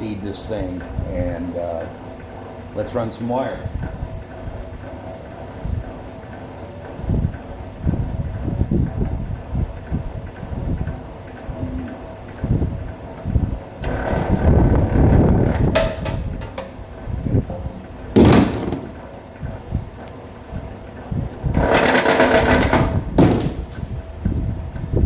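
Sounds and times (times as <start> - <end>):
electric wire stripper running: 3.8 - 25.0.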